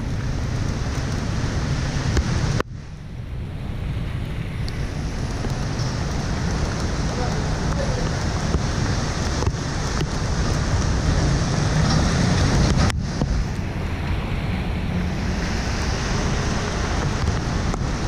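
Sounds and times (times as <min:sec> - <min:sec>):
hiss of wet road: 0:00.0 - 0:18.0
wind buffeting microphone: 0:00.0 - 0:18.0.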